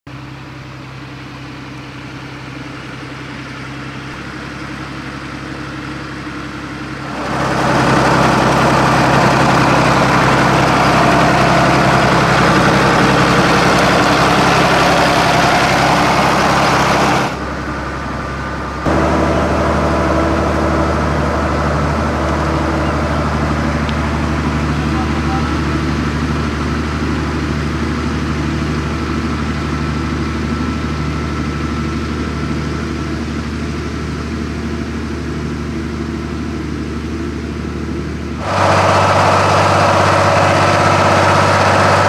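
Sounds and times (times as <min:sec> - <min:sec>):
tractor diesel engine running: 0:00.1 - 0:42.0.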